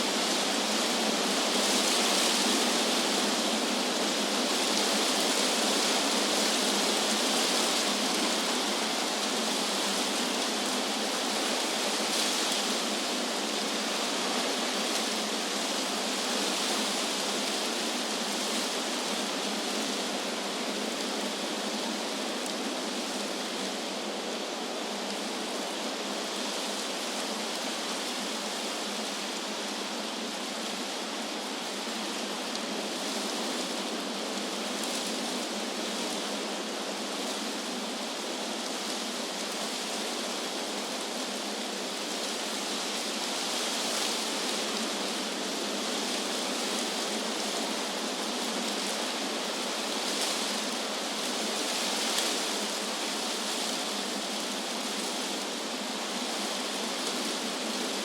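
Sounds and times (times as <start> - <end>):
wind blowing through trees: 0.0 - 58.0.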